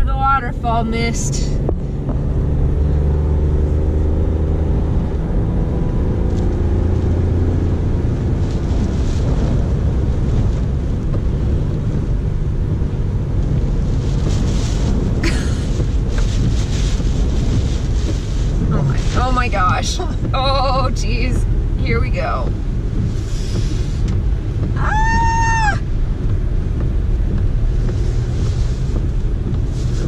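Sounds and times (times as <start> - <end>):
car engine and tyre rumble: 0.0 - 30.0
rain spattering on windshield: 0.0 - 30.0
wind buffeting car: 0.0 - 30.0.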